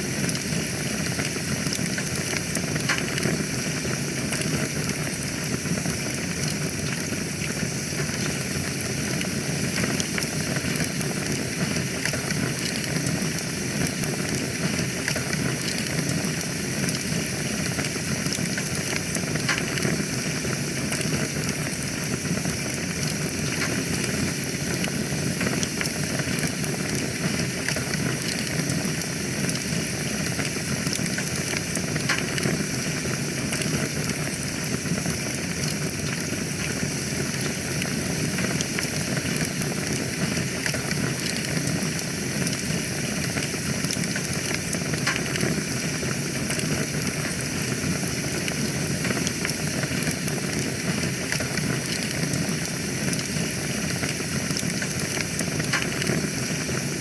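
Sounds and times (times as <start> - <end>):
wood fire burning and crackling: 0.0 - 57.0.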